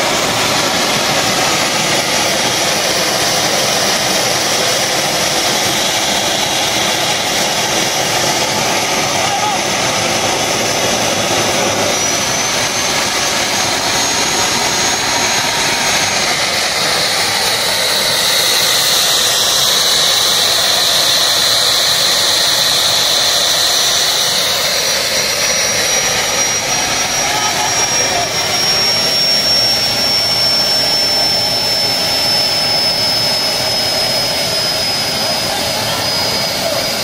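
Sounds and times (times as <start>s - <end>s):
turbojet turbine whine: 0.0s - 37.0s.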